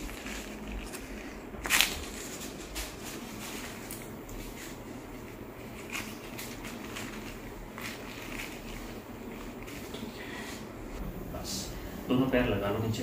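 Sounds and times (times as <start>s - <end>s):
tissue rustling against hair: 0.0s - 12.1s
low room hum: 0.0s - 13.0s.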